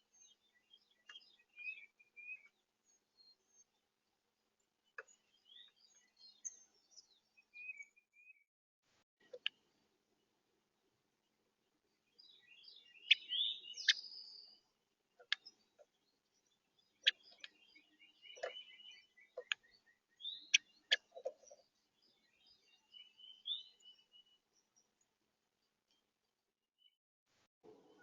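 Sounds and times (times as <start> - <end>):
songbirds singing: 0.0 - 8.5, 9.2 - 27.0.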